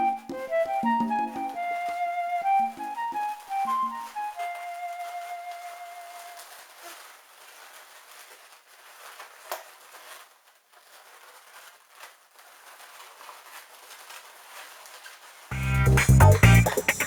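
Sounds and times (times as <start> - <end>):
balloons crinkling: 0.0 - 17.0.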